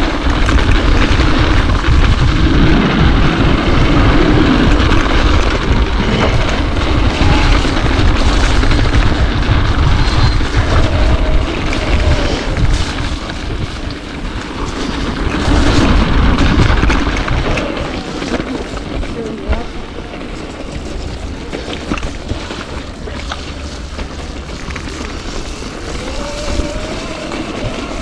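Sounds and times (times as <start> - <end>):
bike tyres and rattle: 0.0 - 28.0
wind rumble on microphone: 0.0 - 28.0.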